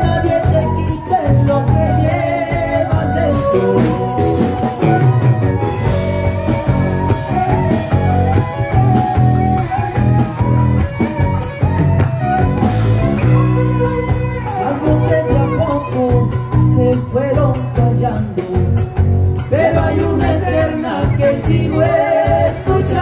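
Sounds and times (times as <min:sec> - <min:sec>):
bass guitar: 0:00.0 - 0:23.0
drum kit: 0:00.0 - 0:23.0
electric guitars: 0:00.0 - 0:23.0
lead melody: 0:00.0 - 0:23.0.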